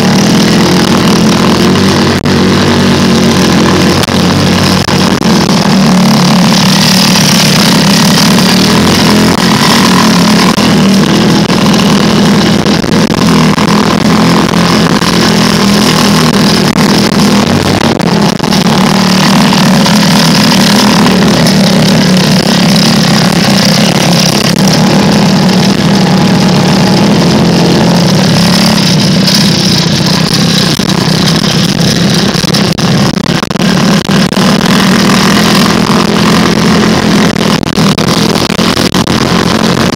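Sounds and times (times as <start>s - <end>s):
off-road vehicle engine running: 0.0s - 39.9s
rough trail ride noise: 0.0s - 39.9s.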